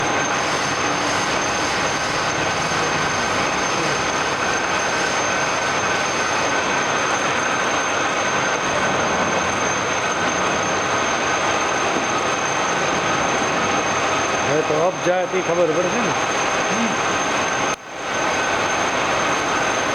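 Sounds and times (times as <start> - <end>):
constant high whine: 0.0 - 19.9
drilling machine running: 0.0 - 19.9.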